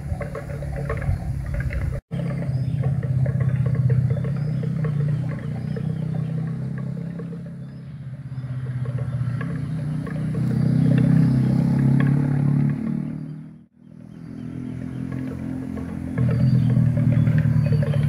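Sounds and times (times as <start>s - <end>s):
neck bells clanking: 0.0s - 13.4s, 14.4s - 18.0s
vehicle engine humming: 0.0s - 18.0s.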